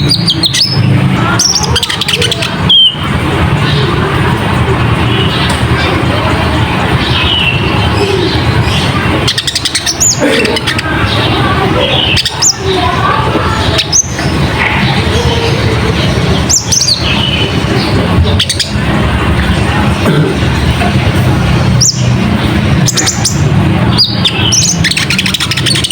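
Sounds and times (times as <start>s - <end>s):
bird chattering twitters: 0.0s - 25.9s.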